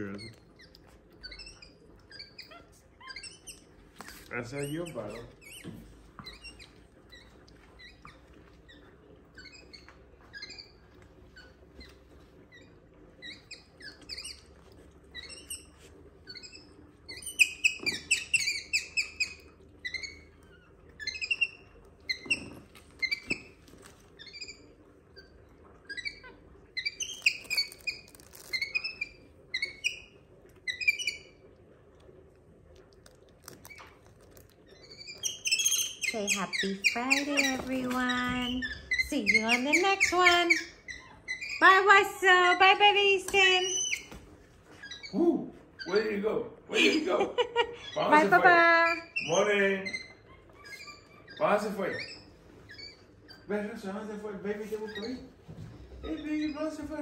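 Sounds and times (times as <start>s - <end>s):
monkey chirping: 0.1s - 31.4s, 33.1s - 45.2s, 46.8s - 53.5s, 54.6s - 55.4s, 56.0s - 57.0s.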